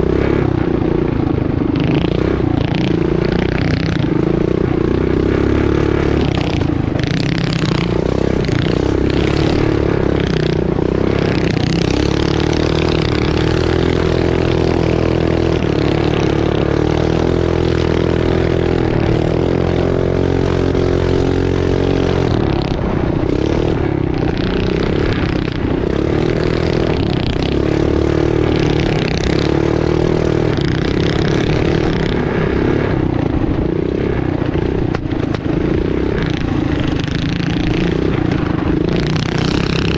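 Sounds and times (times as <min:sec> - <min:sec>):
mini bike engine high revs: 0:00.0 - 0:39.9.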